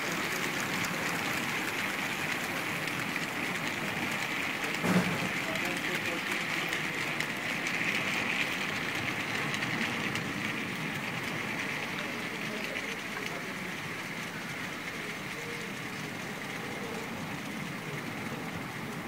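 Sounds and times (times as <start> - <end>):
wheels clicking over rails: 0.0 - 19.0.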